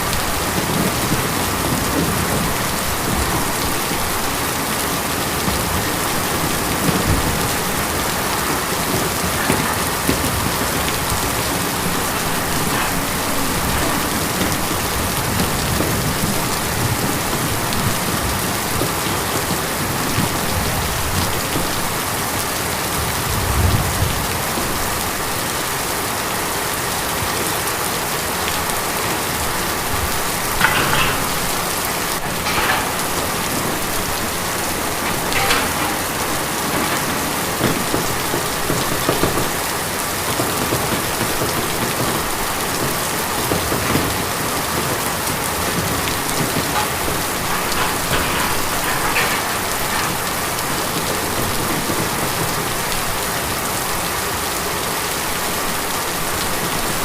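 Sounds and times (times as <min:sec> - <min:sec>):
rain falling on tin: 0:00.0 - 0:57.0.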